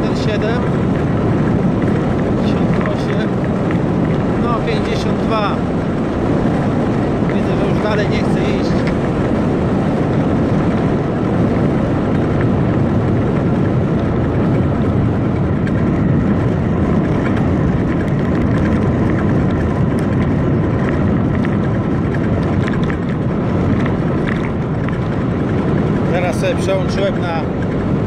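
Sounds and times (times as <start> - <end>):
tyre noise on asphalt: 0.0 - 28.0
wind over microphone: 0.0 - 28.0.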